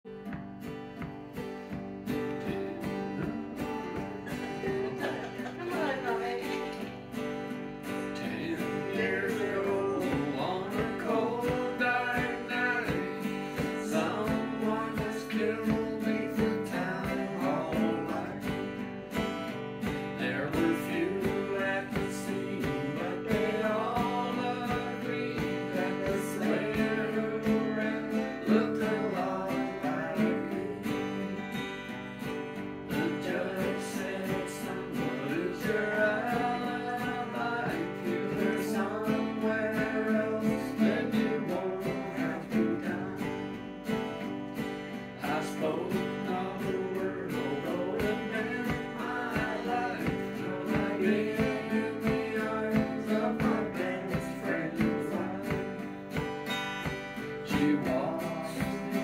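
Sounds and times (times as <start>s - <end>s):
acoustic guitar strumming: 0.0s - 59.0s
ukulele strumming: 0.1s - 59.0s
group of people singing: 2.0s - 7.1s, 7.8s - 18.9s, 19.8s - 31.9s, 32.6s - 44.2s, 44.9s - 59.0s.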